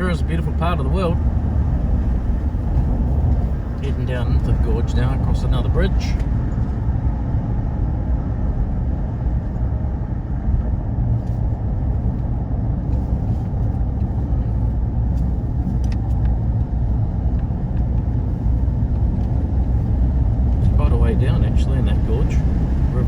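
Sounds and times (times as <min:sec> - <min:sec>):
vehicle engine and tyre rumble: 0:00.0 - 0:23.0.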